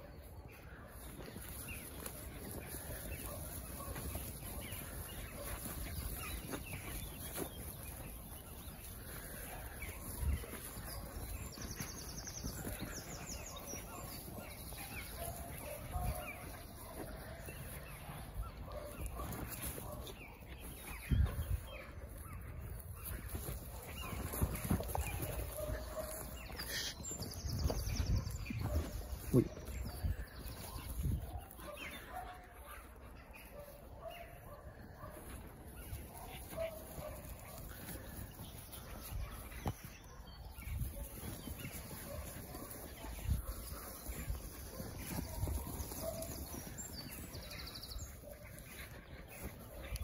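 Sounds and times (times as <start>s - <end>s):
steady outdoor noise: 0.0s - 50.0s.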